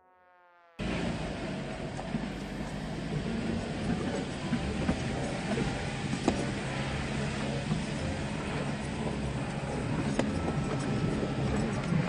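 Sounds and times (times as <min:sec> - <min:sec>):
car engine running: 0:00.8 - 0:12.0.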